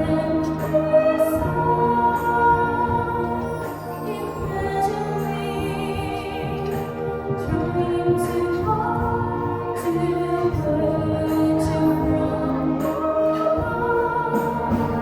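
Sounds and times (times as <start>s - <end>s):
ensemble accompaniment: 0.0s - 15.0s.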